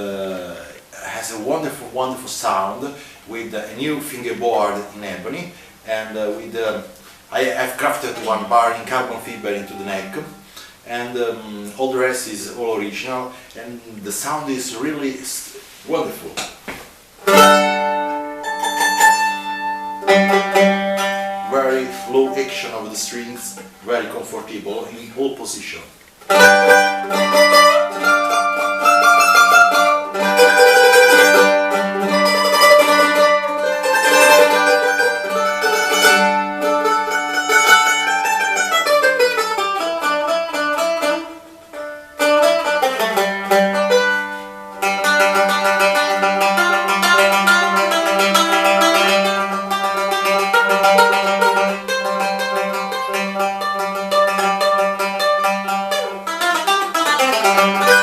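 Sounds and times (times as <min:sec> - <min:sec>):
mandolin melody: 0:00.0 - 0:15.8, 0:17.2 - 0:58.0.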